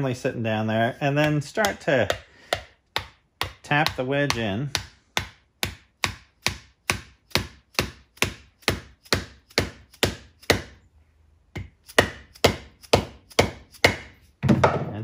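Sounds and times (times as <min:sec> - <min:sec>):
mallet knocking wooden wedge: 0:01.2 - 0:10.7, 0:11.6 - 0:14.9.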